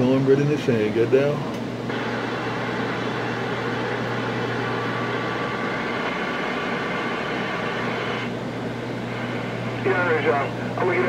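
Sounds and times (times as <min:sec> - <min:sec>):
faint whining tones: 0:01.5 - 0:11.0
radio static hiss: 0:01.8 - 0:11.0.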